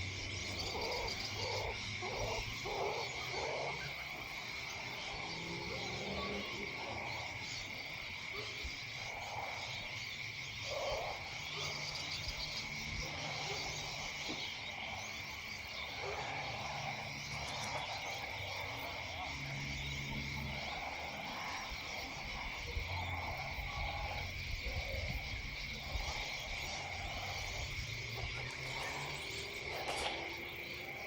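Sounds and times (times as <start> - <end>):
frogs calling: 0.0 - 31.0
high insect trill: 0.0 - 31.0.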